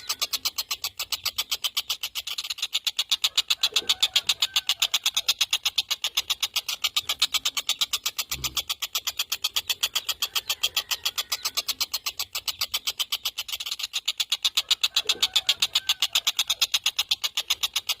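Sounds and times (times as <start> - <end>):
kingfisher rattling call: 0.0 - 18.0.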